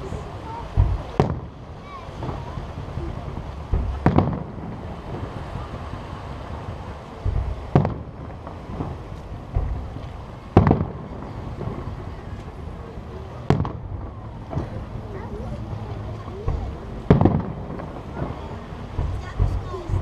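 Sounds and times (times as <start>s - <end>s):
deep firework thumps: 0.0s - 12.6s, 13.4s - 15.2s, 16.2s - 20.0s
steady low rumble: 0.0s - 20.0s
firework shells bursting: 0.1s - 12.6s, 16.2s - 20.0s.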